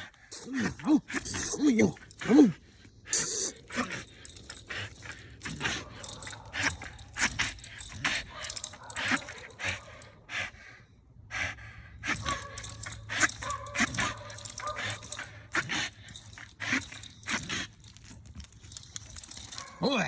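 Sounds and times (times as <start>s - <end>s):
dog breathing hard: 0.0s - 19.8s.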